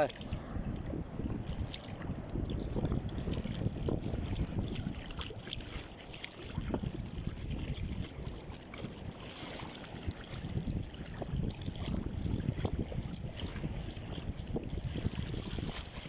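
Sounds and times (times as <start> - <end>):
water sloshing around boat: 0.0 - 16.0
wind on microphone: 0.0 - 16.0.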